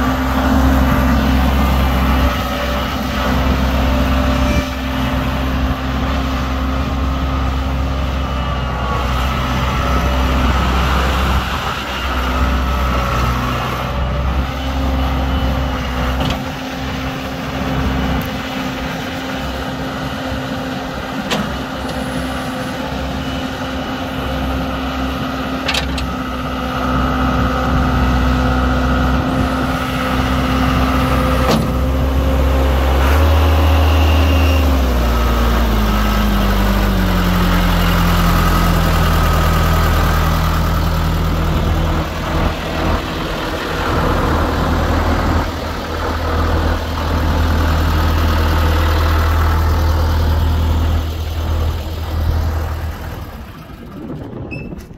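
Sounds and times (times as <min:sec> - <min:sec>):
skid steer engine running: 0:00.0 - 0:54.9.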